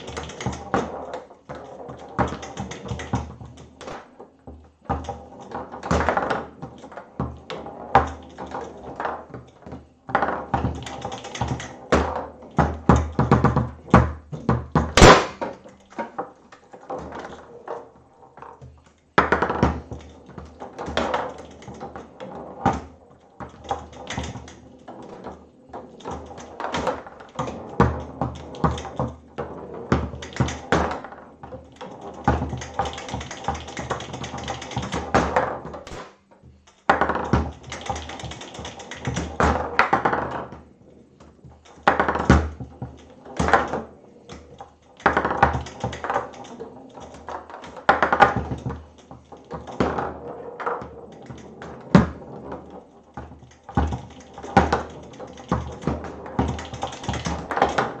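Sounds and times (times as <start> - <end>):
foosball ball knocking: 0.0 - 58.0
foosball rods clacking: 0.0 - 58.0.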